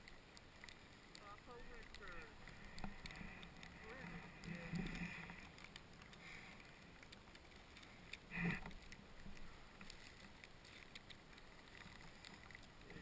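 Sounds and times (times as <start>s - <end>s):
faint clicks: 0.0s - 13.0s.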